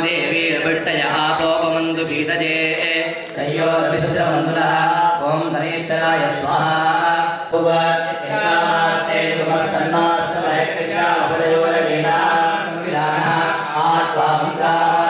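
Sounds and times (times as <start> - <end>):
priests chanting melodically: 0.0 - 15.0.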